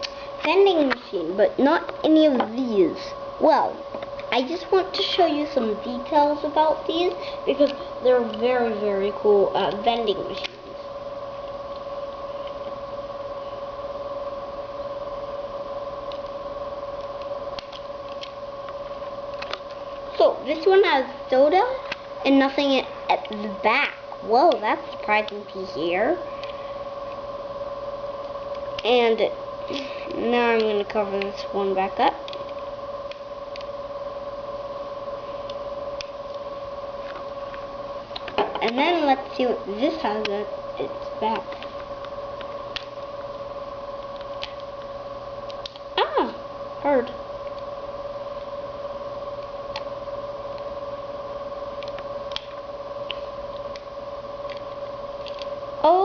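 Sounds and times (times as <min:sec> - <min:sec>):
electrical hum: 0:00.0 - 0:56.0
steady two-tone whine: 0:00.0 - 0:56.0.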